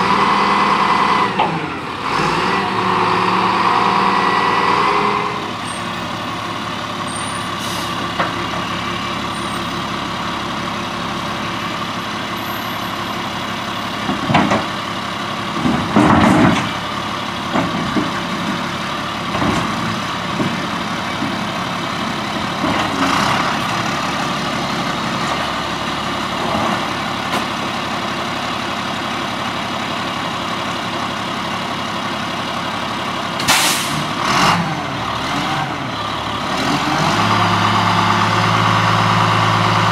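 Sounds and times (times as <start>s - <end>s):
garbage truck idling: 0.0s - 3.6s, 5.4s - 39.9s.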